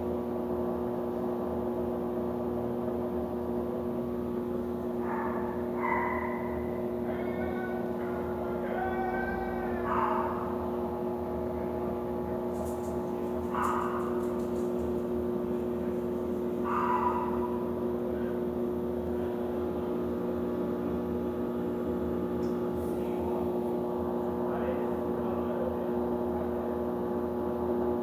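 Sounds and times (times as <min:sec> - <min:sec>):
washing machine motor hum: 0:00.0 - 0:28.0.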